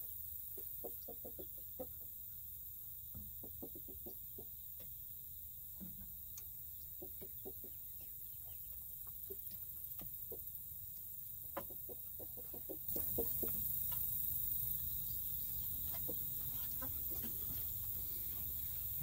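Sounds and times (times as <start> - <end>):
hens clucking: 0.0 - 19.0
steady hiss: 0.0 - 19.0.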